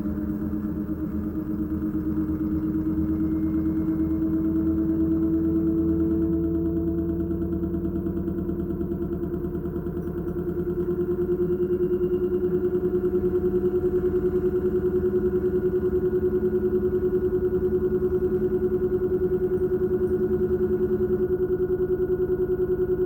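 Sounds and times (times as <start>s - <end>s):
washing machine motor whine: 0.0s - 23.0s.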